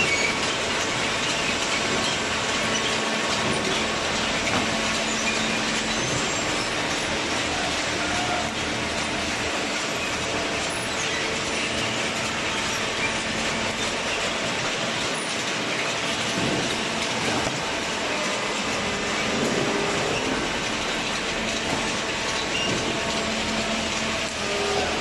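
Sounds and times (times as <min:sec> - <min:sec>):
industrial machinery running: 0:00.0 - 0:25.0.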